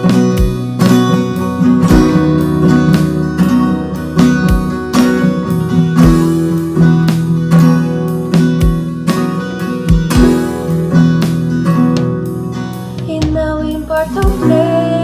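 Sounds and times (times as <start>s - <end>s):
acoustic guitar strumming: 0.0s - 15.0s
low beat: 0.0s - 15.0s.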